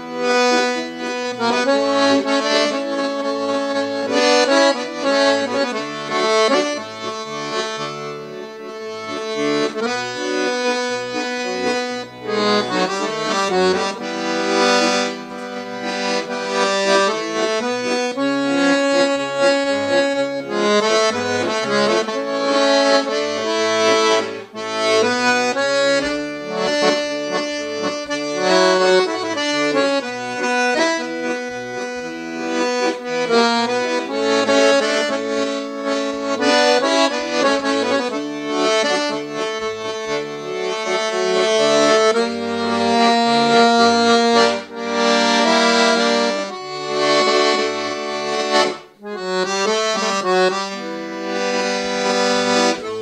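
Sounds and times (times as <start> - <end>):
accordion playing a tango: 0.0 - 53.0.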